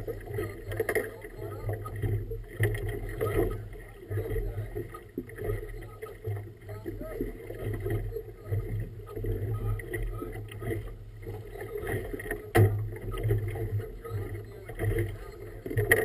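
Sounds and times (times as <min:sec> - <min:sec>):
water sloshing against boat hull: 0:00.0 - 0:16.0.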